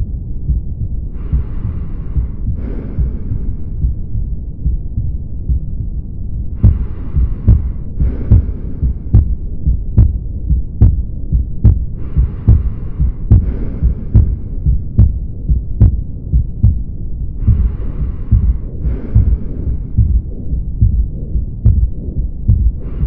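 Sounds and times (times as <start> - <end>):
heartbeat through stethoscope: 0.0 - 23.0
low rumble: 0.0 - 23.0.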